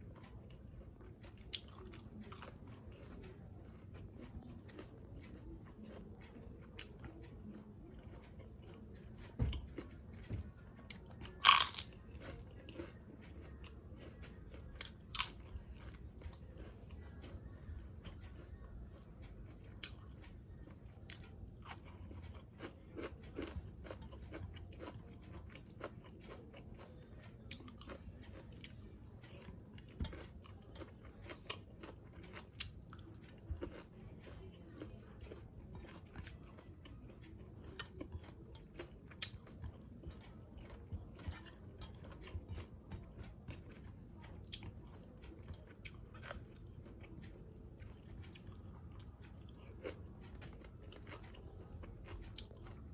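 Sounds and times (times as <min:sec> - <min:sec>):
person chewing and crunching food: 0:00.0 - 0:52.9.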